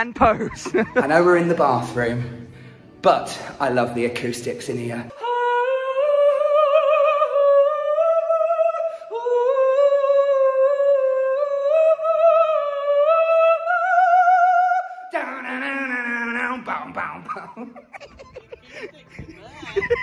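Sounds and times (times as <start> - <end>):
person singing with vibrato: 1.0 - 18.0.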